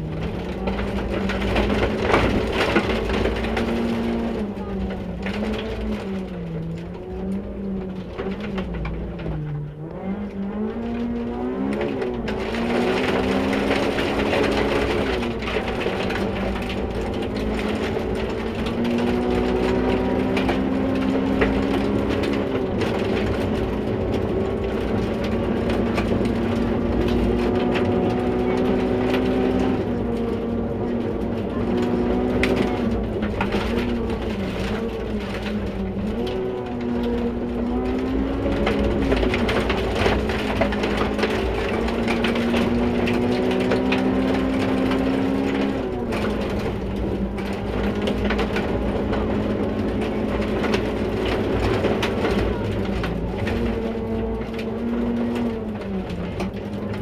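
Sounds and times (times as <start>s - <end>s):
gravel crackling under tyres: 0.0s - 57.0s
rally car engine revving: 0.0s - 57.0s.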